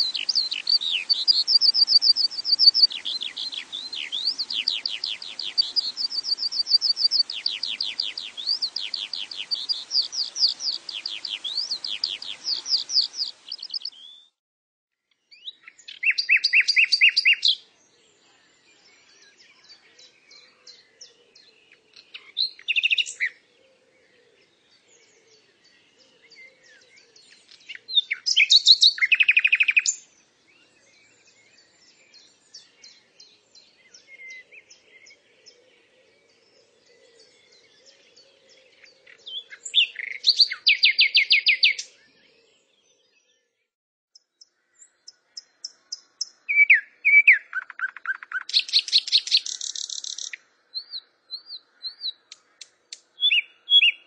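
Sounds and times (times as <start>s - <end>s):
songbird trilling and chirping: 0.0s - 14.3s, 15.3s - 17.6s, 18.2s - 43.5s, 44.2s - 54.0s.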